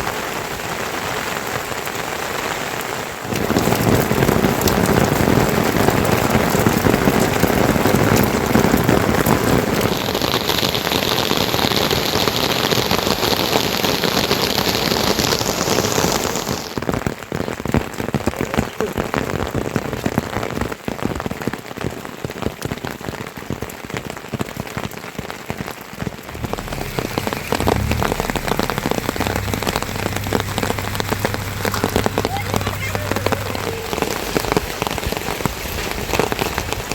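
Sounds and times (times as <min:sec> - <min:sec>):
rain falling: 0:00.0 - 0:36.9.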